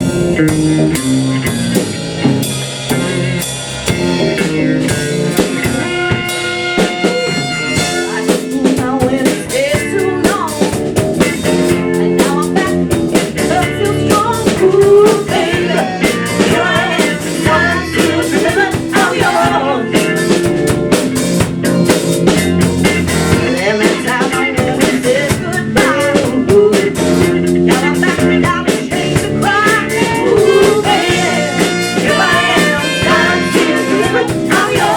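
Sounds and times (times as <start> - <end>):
drum kit beat: 0.0 - 34.9
electric guitar lead lines: 0.0 - 34.9
live blues-rock band: 0.0 - 34.9.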